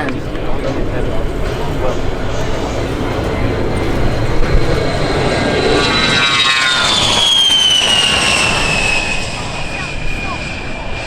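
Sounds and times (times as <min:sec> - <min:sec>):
airplane passing by: 0:00.0 - 0:11.0.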